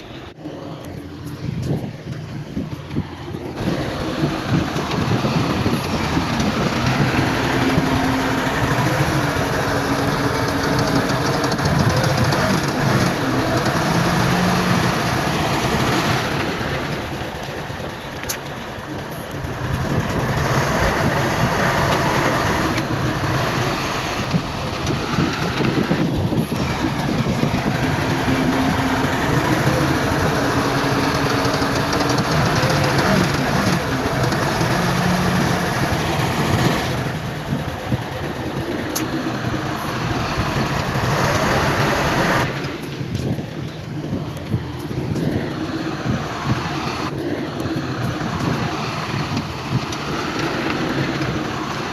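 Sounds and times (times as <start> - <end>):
heavy diesel machinery rumbling: 0.0 - 51.9.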